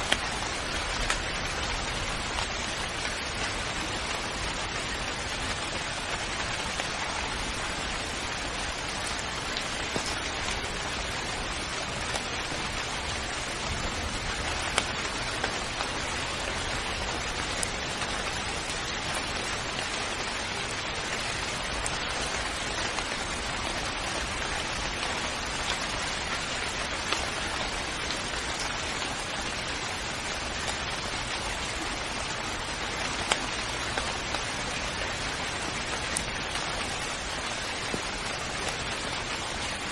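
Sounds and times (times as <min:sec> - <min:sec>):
raindrop hits: 0:00.0 - 0:39.9
steady rain falling: 0:00.0 - 0:39.9.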